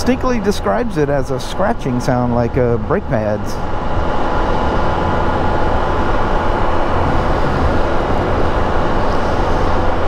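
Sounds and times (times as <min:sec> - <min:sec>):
engine low hum: 0:00.0 - 0:10.0
tyre and road noise: 0:00.0 - 0:10.0.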